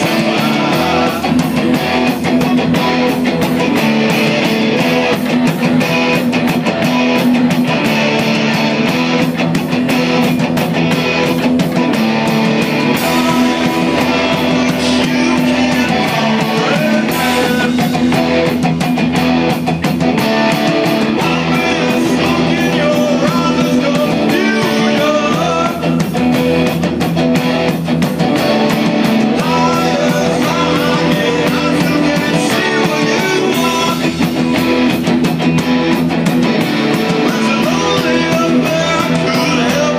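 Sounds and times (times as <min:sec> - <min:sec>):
drum beat: 0:00.0 - 0:39.9
electric guitars: 0:00.0 - 0:39.9.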